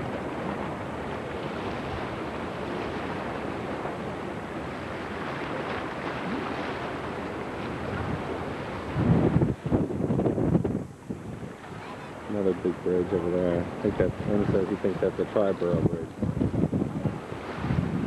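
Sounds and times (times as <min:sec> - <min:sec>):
water moving past a boat: 0:00.0 - 0:18.0
wind on microphone: 0:00.0 - 0:18.0.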